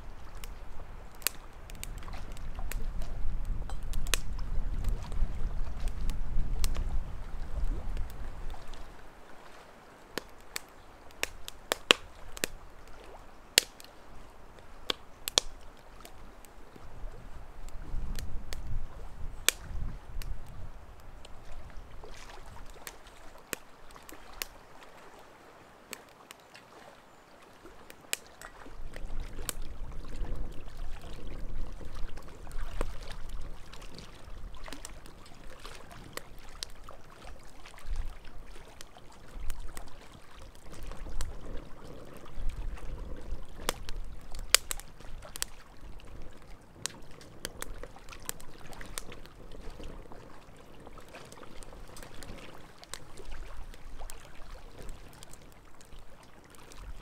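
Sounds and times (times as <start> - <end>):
wind rumbling on microphone: 0.0 - 13.4, 14.0 - 25.0, 28.5 - 57.0
wood fire crackling and popping: 0.2 - 8.8, 10.1 - 13.9, 14.6 - 18.8, 19.4 - 21.7, 27.9 - 57.0.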